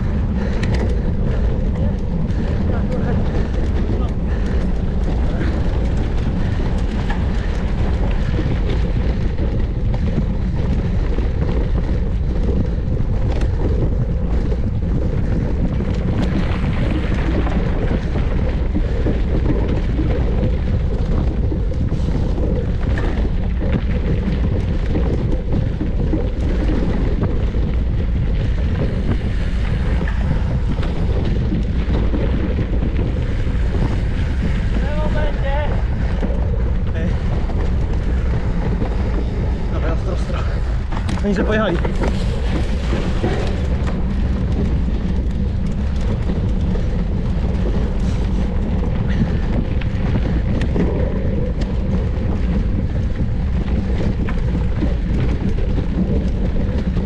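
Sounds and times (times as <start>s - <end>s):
low rumble of bike ride: 0.0s - 57.0s
wind buffeting microphone: 0.0s - 57.0s.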